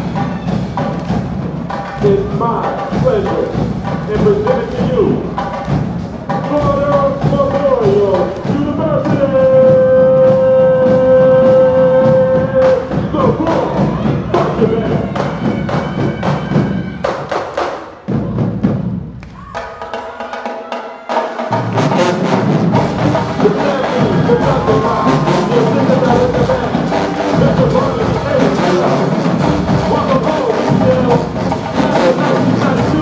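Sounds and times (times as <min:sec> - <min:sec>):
drumline hits: 0:00.0 - 0:33.0
marching band brass: 0:00.0 - 0:33.0.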